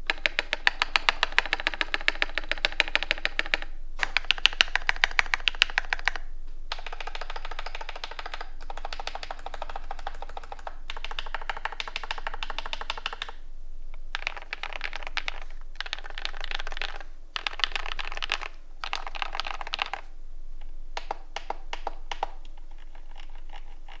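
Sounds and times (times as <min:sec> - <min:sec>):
typing on mechanical keyboard: 0:00.1 - 0:13.4, 0:14.1 - 0:20.0, 0:21.0 - 0:24.0.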